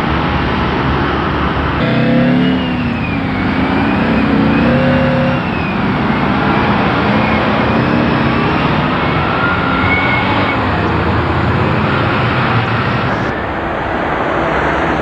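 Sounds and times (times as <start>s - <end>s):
cars passing: 0.0s - 15.0s
crane truck diesel engine: 0.0s - 15.0s
traffic noise: 0.0s - 15.0s.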